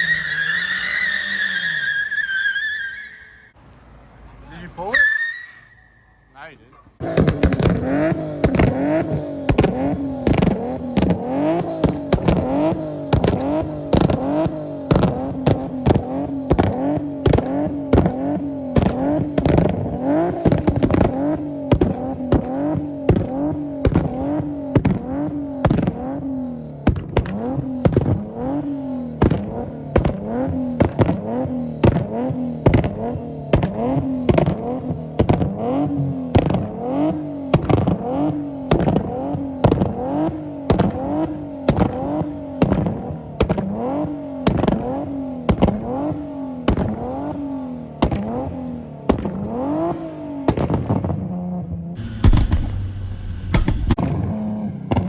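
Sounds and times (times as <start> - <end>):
car engine revving: 0.0 - 55.0
exhaust pops and cracks: 7.0 - 55.0.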